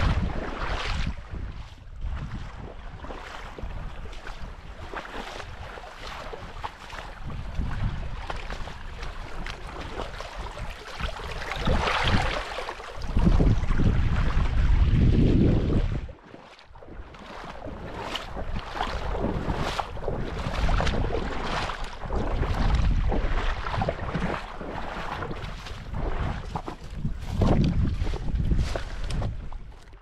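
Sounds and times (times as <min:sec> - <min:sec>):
wind buffeting microphone: 0:00.0 - 0:29.9
running water rushing: 0:03.2 - 0:29.8.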